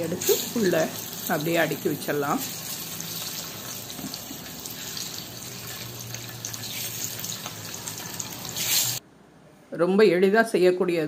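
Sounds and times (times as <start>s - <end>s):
hot oil sizzling in a frying pan: 0.0s - 9.0s.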